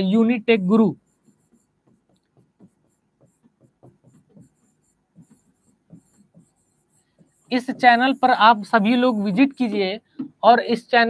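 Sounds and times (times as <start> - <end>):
pen scratching on board: 0.0 - 9.9.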